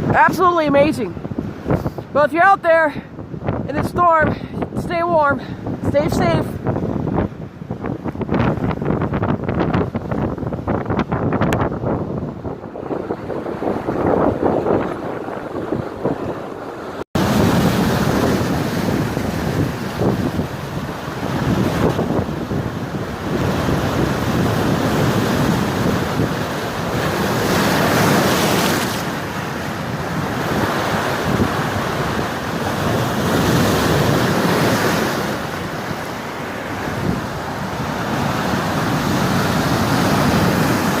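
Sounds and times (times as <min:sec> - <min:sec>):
storm wind blowing: 0:00.0 - 0:41.0
waves washing against rocky shore: 0:00.0 - 0:41.0.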